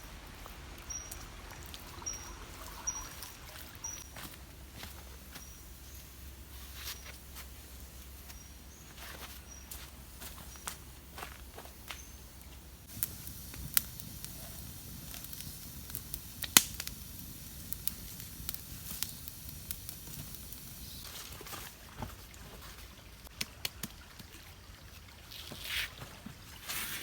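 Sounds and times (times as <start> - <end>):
faint steady background noise: 0.0 - 27.0.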